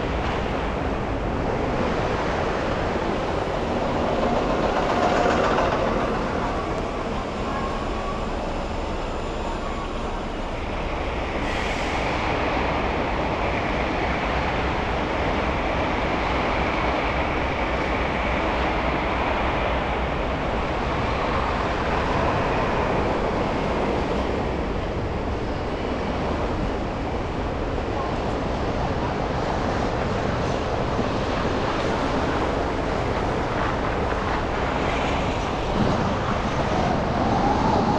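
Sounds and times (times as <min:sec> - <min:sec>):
tyres and engines rumbling: 0:00.0 - 0:37.9.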